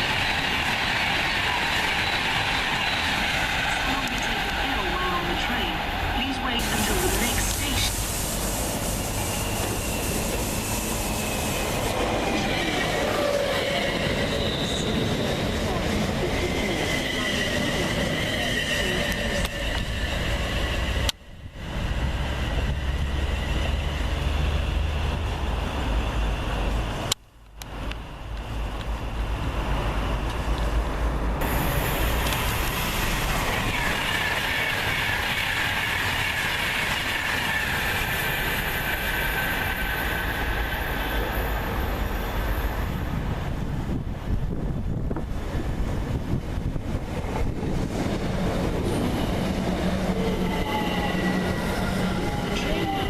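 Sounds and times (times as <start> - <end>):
rail noise: 0.0 - 53.0.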